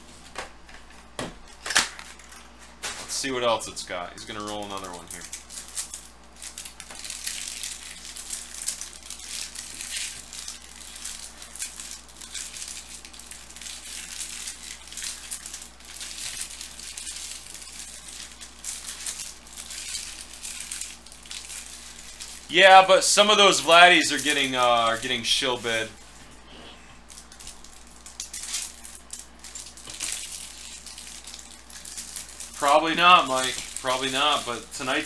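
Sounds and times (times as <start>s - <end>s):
foil wrappers crinkling: 0.8s - 26.4s, 27.0s - 35.0s.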